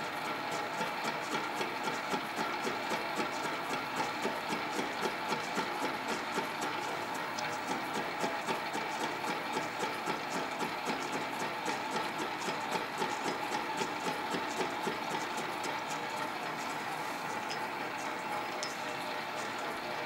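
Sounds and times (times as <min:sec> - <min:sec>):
metal lathe running: 0:00.0 - 0:20.0.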